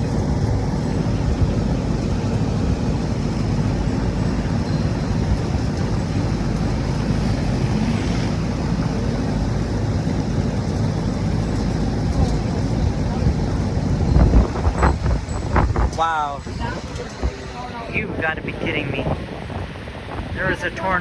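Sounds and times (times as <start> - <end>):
heavy rain falling: 0.0 - 21.0
wind buffeting microphone: 0.0 - 21.0.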